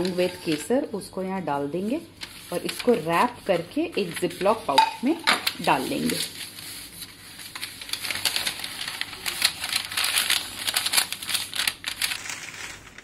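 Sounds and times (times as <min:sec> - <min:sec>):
paper wrap crinkling: 0:00.0 - 0:00.9, 0:01.9 - 0:13.0.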